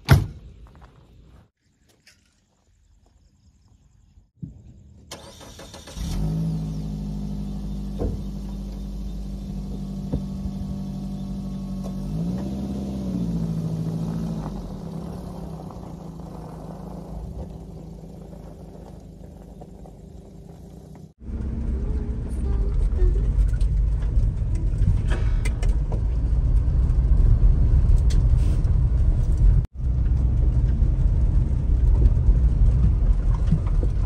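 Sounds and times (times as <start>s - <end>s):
truck engine starting and idling: 4.8s - 34.0s.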